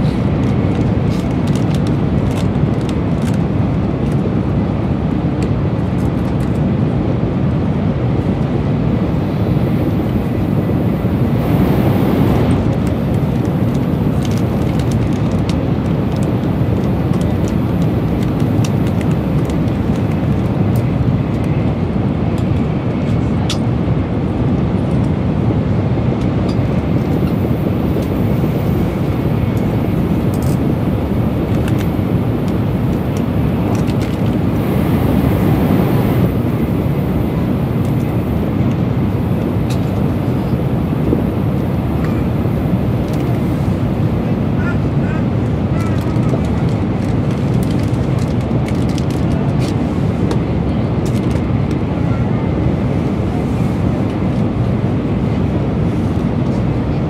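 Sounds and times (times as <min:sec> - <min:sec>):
train cabin low rumble: 0:00.0 - 0:57.0.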